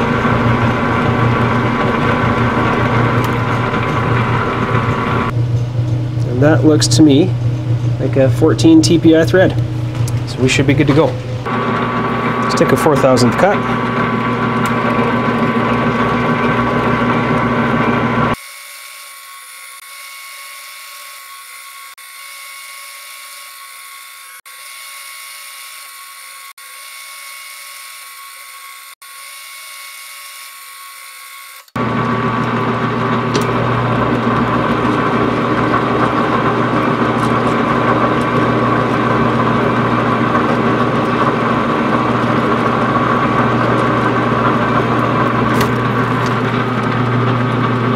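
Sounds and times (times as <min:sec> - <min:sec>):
metal lathe whining hum: 0:00.0 - 0:47.9.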